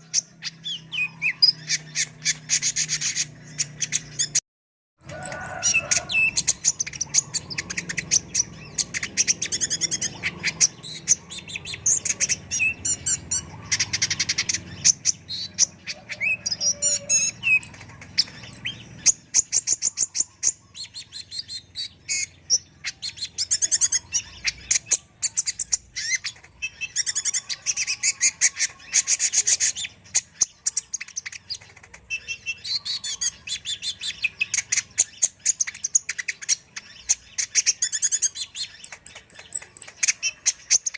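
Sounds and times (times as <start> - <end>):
bird chirping and trilling: 0.0 - 4.4, 5.0 - 40.9.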